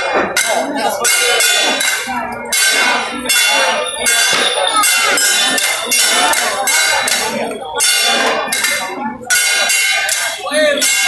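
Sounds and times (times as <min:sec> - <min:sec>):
hand cymbals struck: 0:00.0 - 0:11.0.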